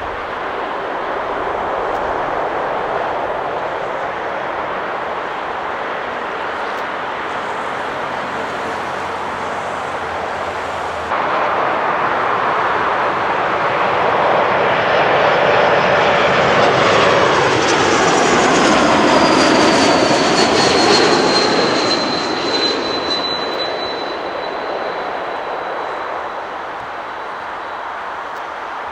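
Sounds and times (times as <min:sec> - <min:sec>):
high whine gliding down: 0:00.0 - 0:28.9
jet airliner passing overhead: 0:00.0 - 0:28.9
steady jet rush: 0:00.0 - 0:28.9.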